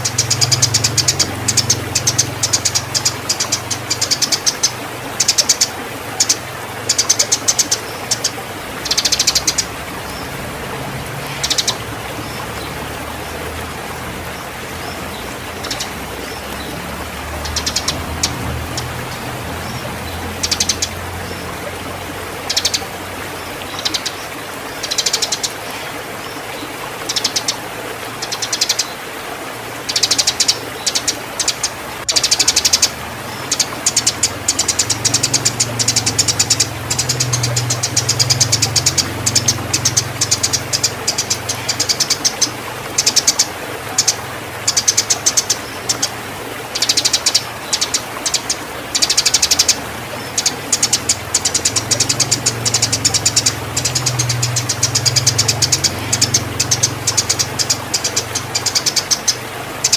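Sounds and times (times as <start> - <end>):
sparrow chirping: 0.0 - 10.3, 11.3 - 12.4, 14.8 - 21.5, 22.4 - 22.9, 24.8 - 25.8, 28.2 - 28.9, 29.9 - 46.1, 46.8 - 59.9.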